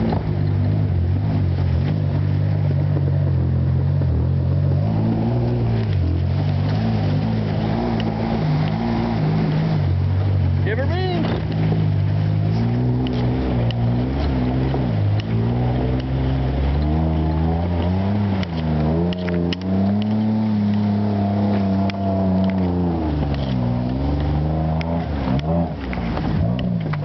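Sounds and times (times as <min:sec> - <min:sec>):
tugboat engine running: 0:00.0 - 0:27.0.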